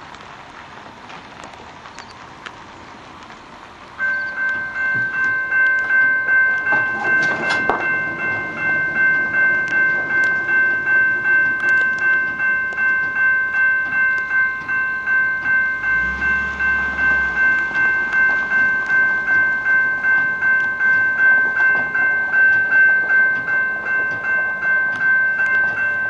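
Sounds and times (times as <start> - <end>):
railroad crossing bell ringing: 4.0 - 26.0.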